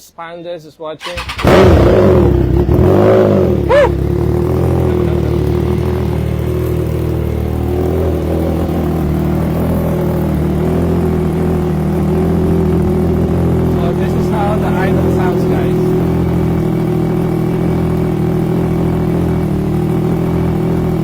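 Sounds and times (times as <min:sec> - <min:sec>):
motorcycle engine idling: 0:01.1 - 0:21.0.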